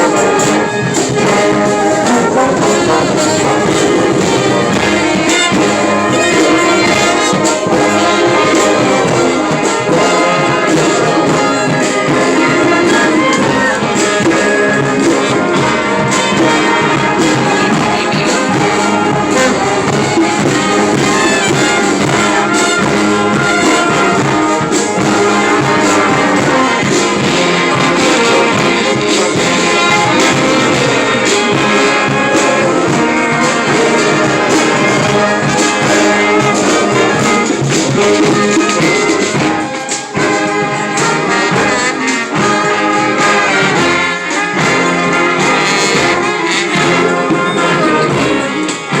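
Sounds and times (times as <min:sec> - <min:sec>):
steady drum beat: 0:00.0 - 0:49.0
trumpets and trombones: 0:00.0 - 0:49.0.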